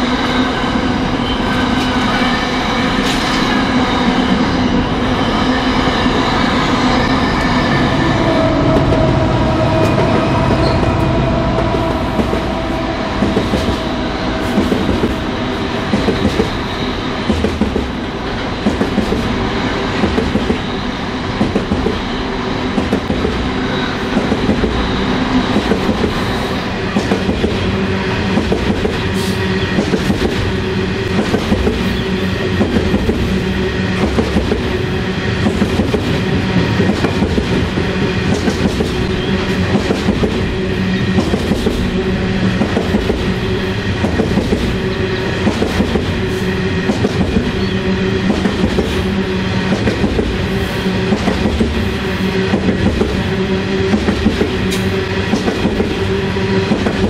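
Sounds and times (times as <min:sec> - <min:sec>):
train wagons rolling on rails: 0:00.0 - 0:57.0.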